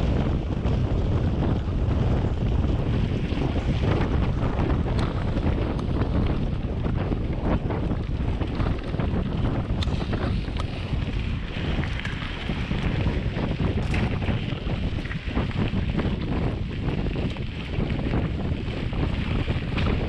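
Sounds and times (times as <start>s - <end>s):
bike rattling: 0.0s - 20.0s
wind buffeting microphone: 0.0s - 20.0s.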